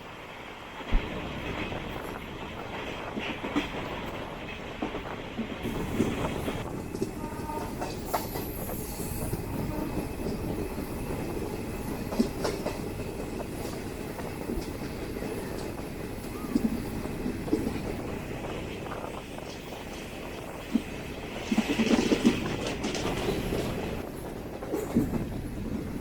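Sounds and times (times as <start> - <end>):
train rumble: 0.0 - 26.0
wheels clattering over rail joints: 1.1 - 26.0.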